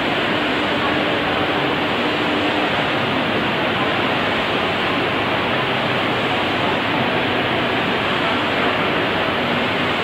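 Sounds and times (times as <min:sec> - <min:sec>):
crowd voices in a hall: 0:00.0 - 0:10.0.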